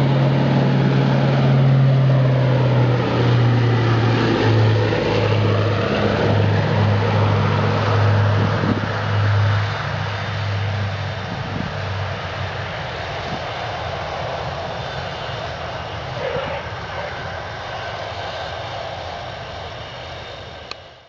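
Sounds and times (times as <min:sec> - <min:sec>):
piston engine aircraft droning: 0:00.0 - 0:21.0.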